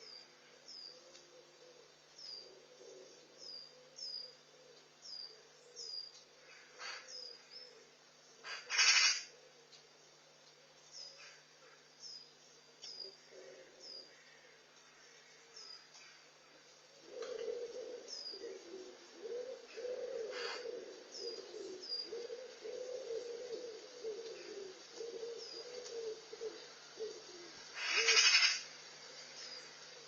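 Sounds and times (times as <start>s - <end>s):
wood pigeon cooing: 0.0s - 11.9s, 12.7s - 14.7s, 16.0s - 30.0s
small birds chirping: 0.0s - 30.0s.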